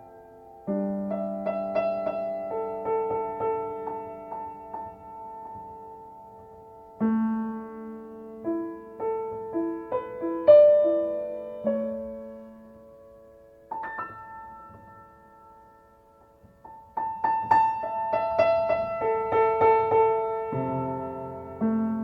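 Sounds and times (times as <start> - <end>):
solo piano notes: 0.0 - 22.0.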